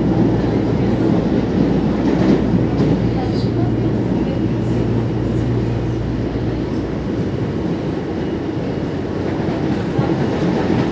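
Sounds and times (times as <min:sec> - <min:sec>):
train wheels rumbling on rails: 0:00.0 - 0:10.9.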